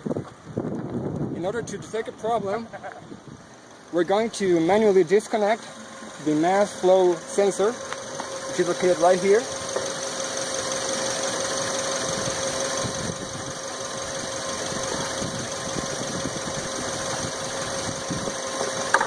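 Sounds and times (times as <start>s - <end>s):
car engine idling: 0.1s - 19.0s.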